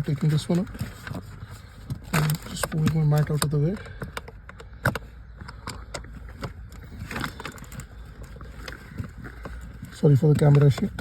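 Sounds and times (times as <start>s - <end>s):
hands clicking and scraping: 0.0s - 11.0s.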